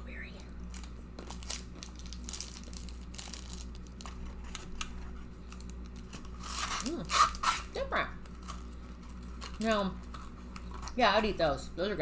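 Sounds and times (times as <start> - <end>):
foil snack wrapper crinkling: 0.6 - 11.0.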